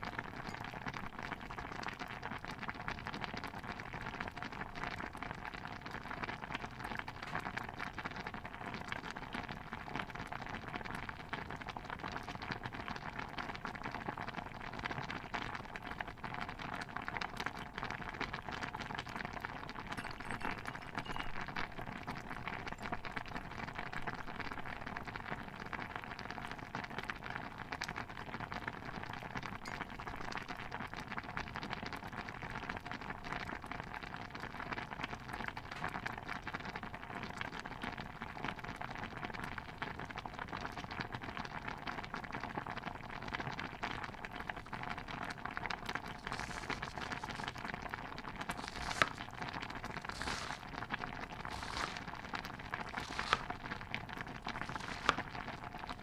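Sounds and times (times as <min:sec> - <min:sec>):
stew bubbling in a pot: 0:00.0 - 0:56.0.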